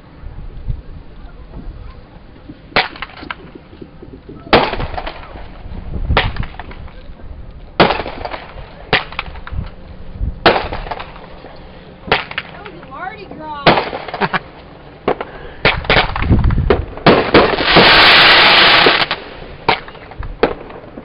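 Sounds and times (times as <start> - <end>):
fireworks crackle: 1.0 - 21.0
fireworks bangs: 1.5 - 7.1, 7.8 - 9.8, 10.4 - 21.0.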